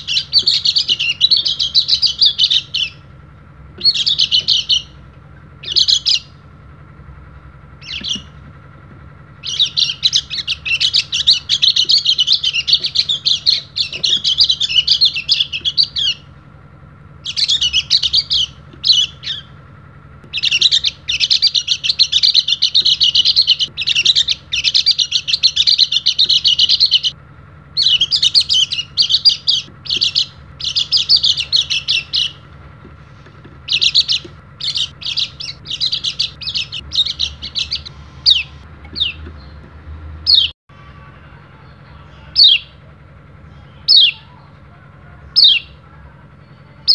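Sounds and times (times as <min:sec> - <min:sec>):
bird chirps: 0:00.0 - 0:03.1, 0:03.7 - 0:06.4, 0:07.8 - 0:08.5, 0:09.3 - 0:16.4, 0:17.2 - 0:19.6, 0:20.3 - 0:39.7, 0:41.6 - 0:42.8, 0:43.4 - 0:44.6, 0:45.3 - 0:45.8
bird twittering: 0:00.0 - 0:03.1, 0:03.7 - 0:06.5, 0:07.7 - 0:16.4, 0:17.1 - 0:40.6, 0:41.7 - 0:42.8, 0:43.4 - 0:44.6, 0:45.3 - 0:45.8, 0:46.4 - 0:46.9.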